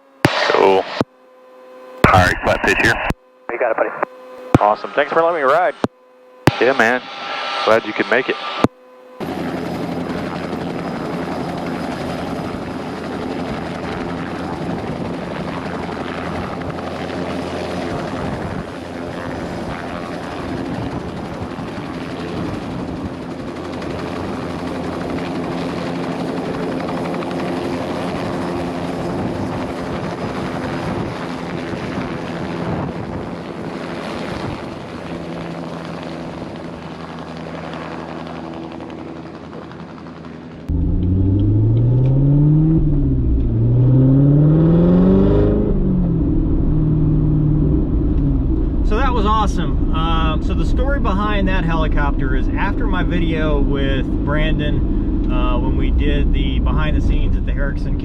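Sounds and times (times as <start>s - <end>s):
helicopter rotor and turbine drone: 0.0s - 58.0s.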